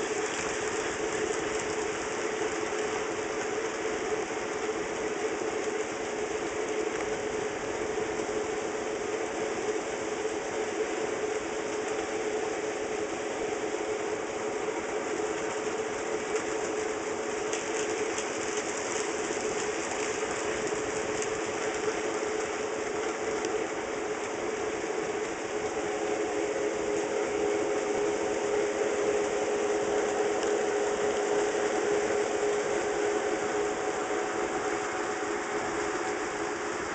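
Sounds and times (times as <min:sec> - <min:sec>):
model train motors humming: 0:00.0 - 0:36.9.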